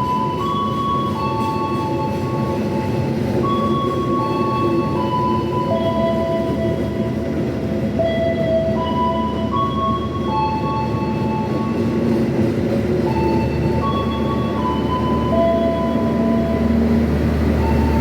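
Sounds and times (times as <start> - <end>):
train running: 0.0 - 18.0.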